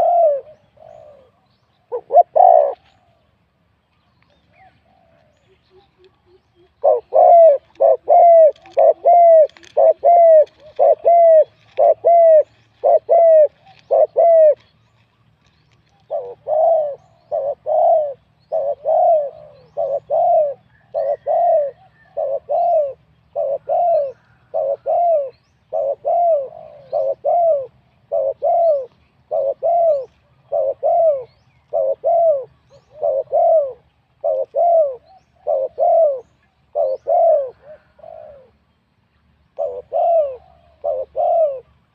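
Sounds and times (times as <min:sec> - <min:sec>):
dove cooing: 0:00.0 - 0:03.2, 0:04.5 - 0:14.7, 0:15.9 - 0:38.7, 0:39.5 - 0:41.9.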